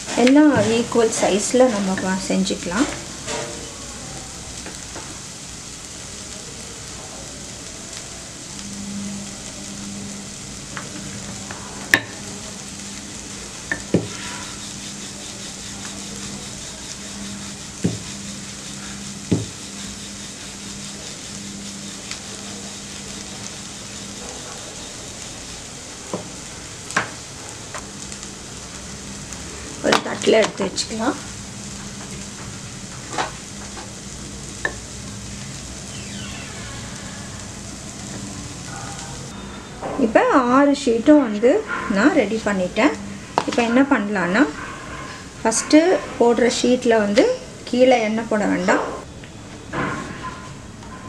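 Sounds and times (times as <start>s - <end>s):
food sizzling in a pan: 0.0s - 48.8s.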